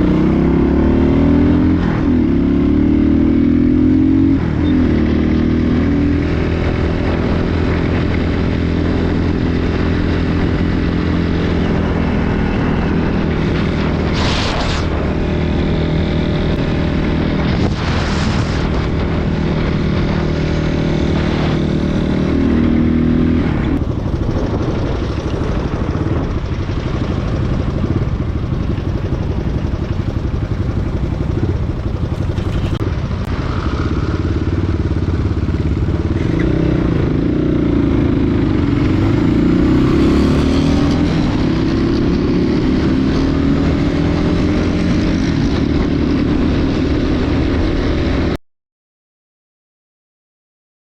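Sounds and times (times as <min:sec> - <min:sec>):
dirt bike engine accelerating: 0:00.0 - 0:48.4.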